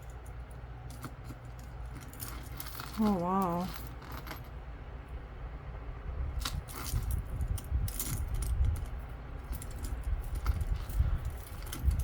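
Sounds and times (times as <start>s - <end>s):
metal chains clinking: 0.0s - 4.6s, 6.4s - 12.0s
rubbing and handling noise: 0.0s - 4.7s, 6.3s - 12.0s.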